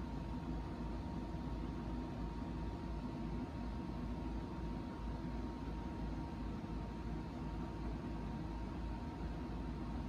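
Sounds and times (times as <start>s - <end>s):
low rumble and hiss: 0.0s - 10.0s.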